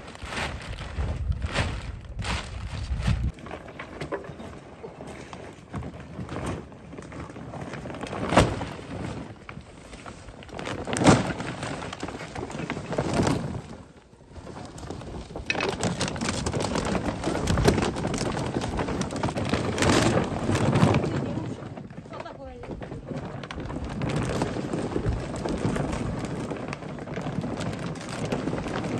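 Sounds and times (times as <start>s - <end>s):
canvas tarp rustling over dirt: 0.0s - 28.9s.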